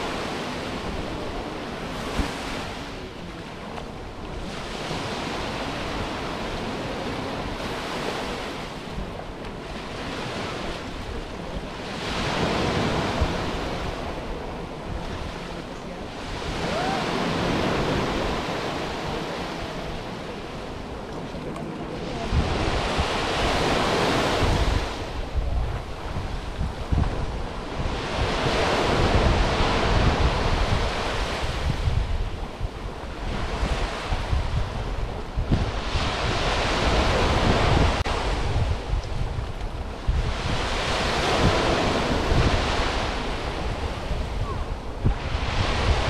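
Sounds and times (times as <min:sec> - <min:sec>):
small waves breaking on beach: 0:00.0 - 0:46.0
wind buffeting microphone: 0:00.0 - 0:46.0.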